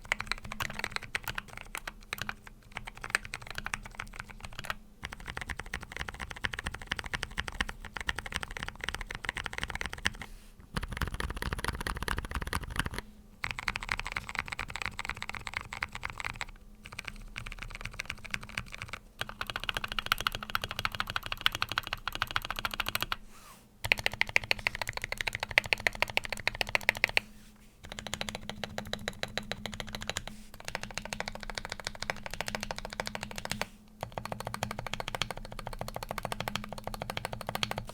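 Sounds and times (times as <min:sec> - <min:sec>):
fast typing on mechanical keyboard: 0:00.0 - 0:23.2, 0:23.8 - 0:27.2, 0:27.8 - 0:37.9.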